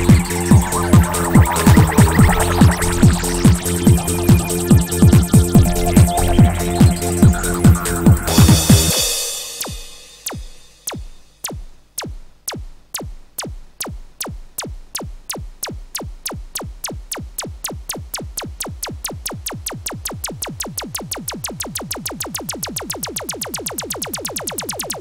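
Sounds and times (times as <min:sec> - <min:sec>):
drum machine build-up roll: 0:00.0 - 0:25.0.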